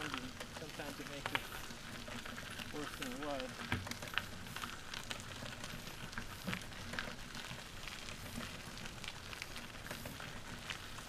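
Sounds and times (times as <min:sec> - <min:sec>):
rattling of bumpy ride: 0:00.0 - 0:11.0
tyres crackling on dirt trail: 0:00.0 - 0:11.0.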